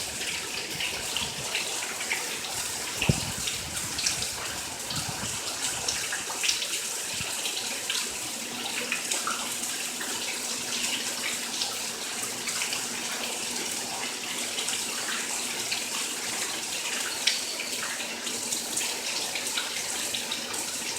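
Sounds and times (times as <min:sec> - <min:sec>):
rainwater running and splashing: 0:00.0 - 0:20.9.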